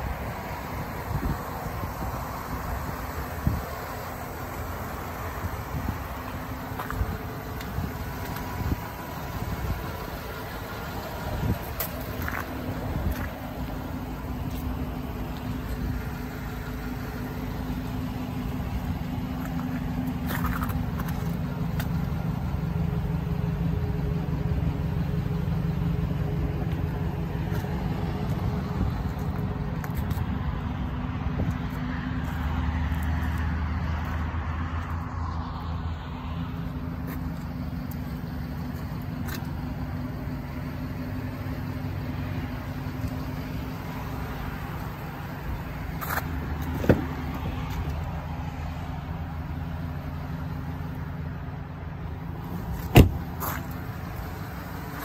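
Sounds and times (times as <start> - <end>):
pickup truck engine idling: 0.0 - 55.0.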